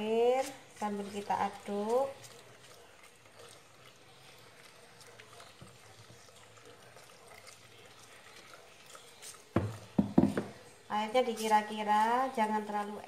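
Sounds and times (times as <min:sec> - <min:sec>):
water pouring into flour: 0:00.0 - 0:13.0
whisk stirring in metal bowl: 0:00.0 - 0:13.0.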